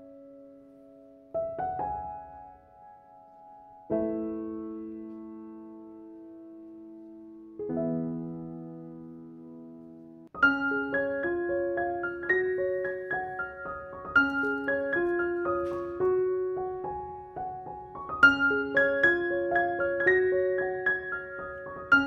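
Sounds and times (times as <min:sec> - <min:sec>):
slow soft piano music: 0:00.0 - 0:22.0.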